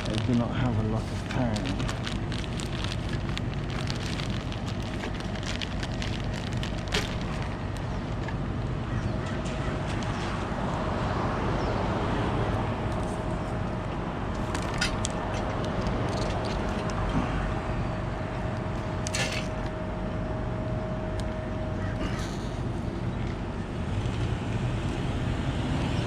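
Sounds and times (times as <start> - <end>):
engine running with whine: 0.0 - 26.0.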